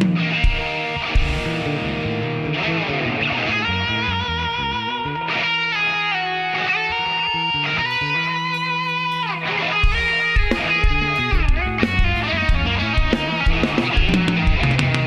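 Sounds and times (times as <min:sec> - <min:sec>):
bass line: 0:00.0 - 0:05.4, 0:07.2 - 0:09.1, 0:09.8 - 0:15.0
electric guitar lead notes: 0:00.0 - 0:15.0.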